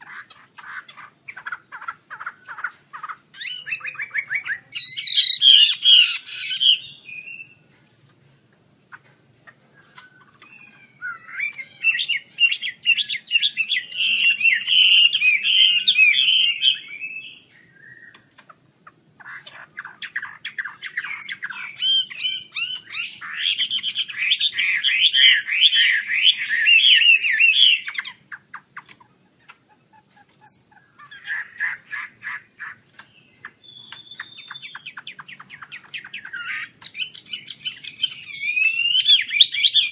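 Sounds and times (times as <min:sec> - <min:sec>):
bird singing sliding notes: 0:00.0 - 0:18.4, 0:19.2 - 0:39.9.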